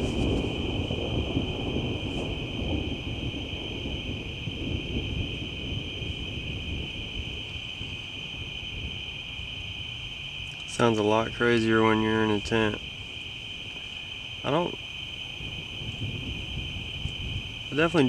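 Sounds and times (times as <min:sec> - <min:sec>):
night insects chorus: 0:00.0 - 0:18.0
thunder rumbling: 0:00.0 - 0:18.0.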